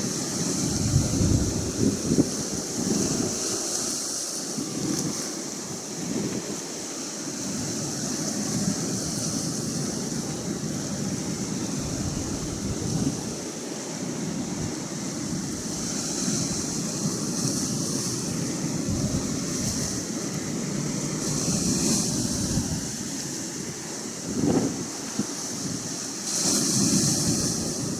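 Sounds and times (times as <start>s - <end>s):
ocean waves washing ashore: 0.0s - 27.9s
wind gusting on microphone: 0.0s - 27.9s.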